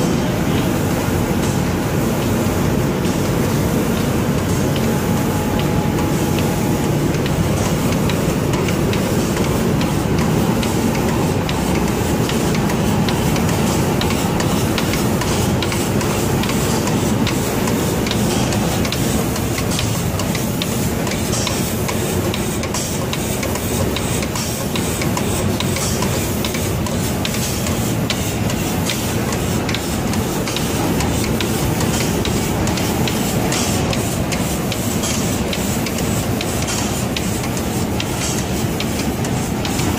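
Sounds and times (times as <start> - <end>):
air and spray hiss: 0.0 - 39.9
machine mechanical din: 2.7 - 39.9.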